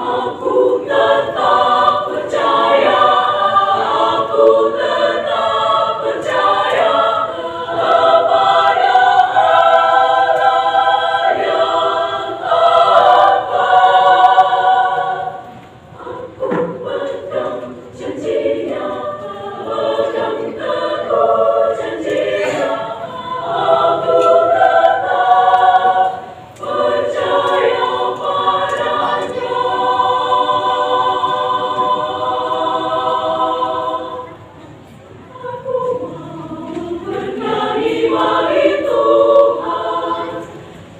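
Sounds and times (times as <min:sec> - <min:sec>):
women's choir singing in harmony: 0:00.0 - 0:40.9.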